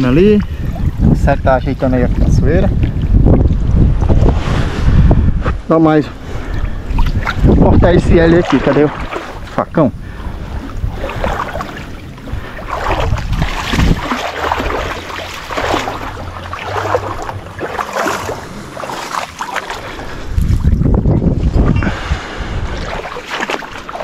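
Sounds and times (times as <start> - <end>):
marsh water sloshing and splashing: 0.0 - 24.0.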